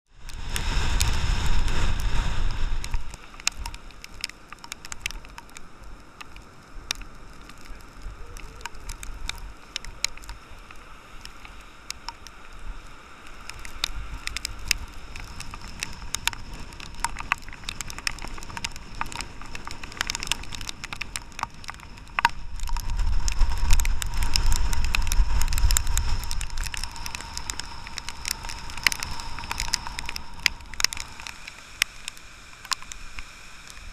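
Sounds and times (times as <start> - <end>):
wind buffeting microphone: 0.1 - 31.5
sharp ticks on microphone: 0.2 - 33.9.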